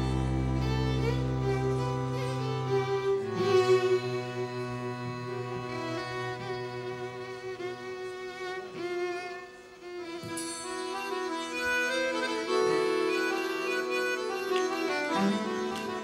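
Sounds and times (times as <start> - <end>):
cello bowing: 0.0 - 16.0
fiddle bowing: 0.0 - 16.0.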